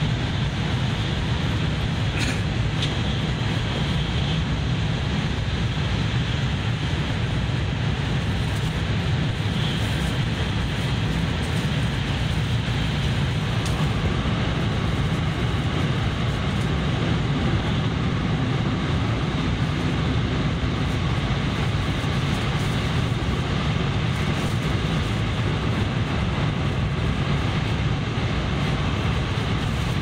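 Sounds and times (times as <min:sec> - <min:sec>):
high speed train cabin rumble: 0:00.0 - 0:30.0.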